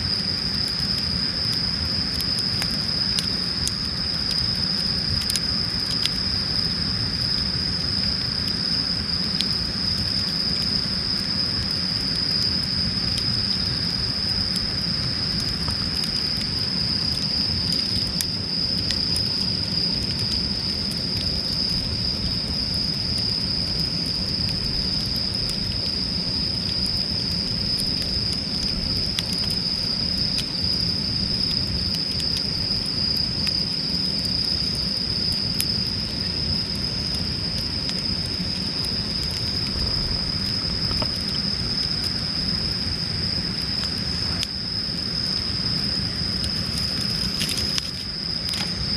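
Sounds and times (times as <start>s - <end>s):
campfire crackling and popping: 0.0s - 48.9s
insects chirring: 0.0s - 48.9s.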